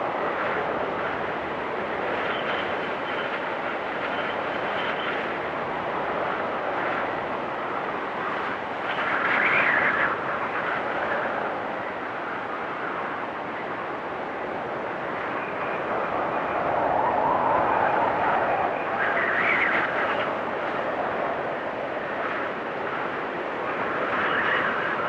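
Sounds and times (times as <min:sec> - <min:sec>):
storm wind blowing: 0:00.0 - 0:25.0
whistling wind gust: 0:00.0 - 0:25.0.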